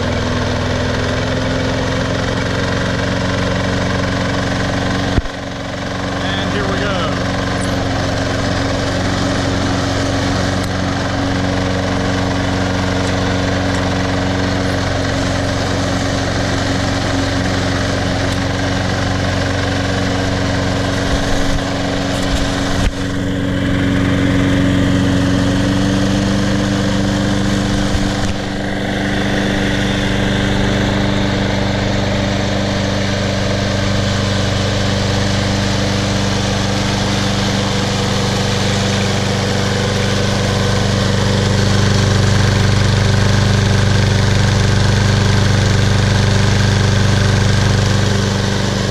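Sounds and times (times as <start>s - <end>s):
lawn mower engine cutting grass: 0.0s - 48.9s.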